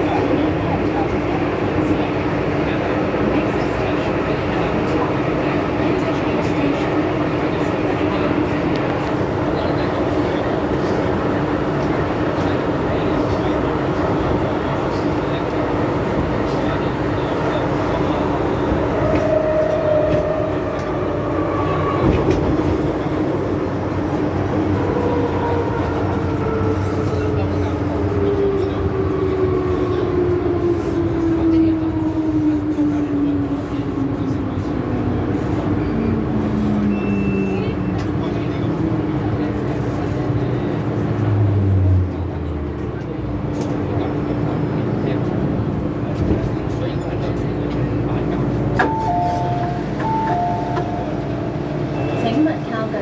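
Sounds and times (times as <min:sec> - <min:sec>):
train running rumble: 0:00.0 - 0:53.0.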